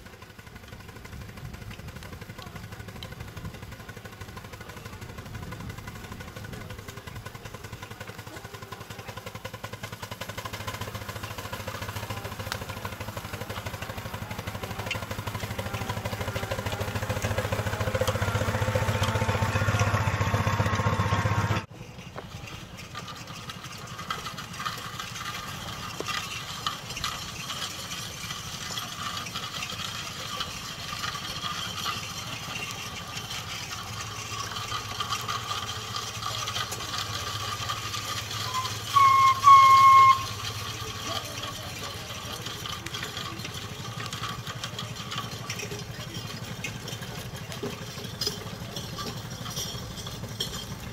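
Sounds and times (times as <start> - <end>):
model steam engine running: 0.0 - 50.9.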